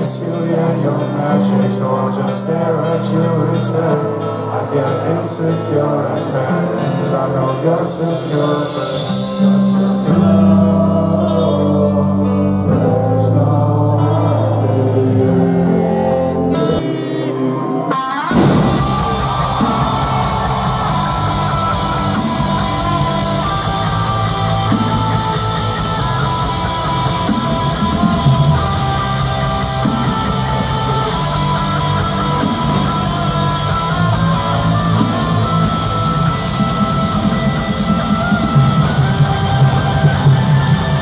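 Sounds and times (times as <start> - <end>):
distorted electric guitar: 0.0 - 41.0
live rock band: 0.0 - 41.0.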